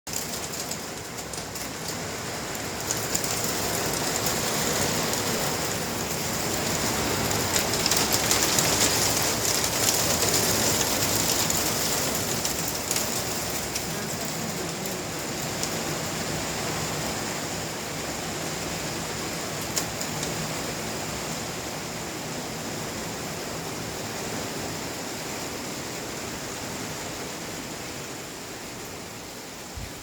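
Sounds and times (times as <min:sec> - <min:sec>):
rain and hail falling: 0:00.1 - 0:30.0.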